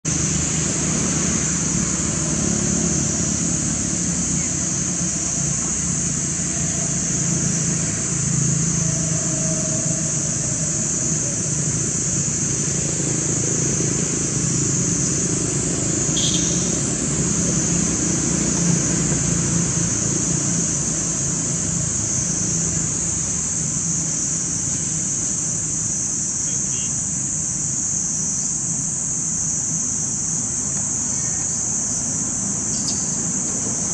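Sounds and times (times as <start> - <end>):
road traffic rumble: 0.0 - 33.9
high-pitched hiss: 0.1 - 33.9.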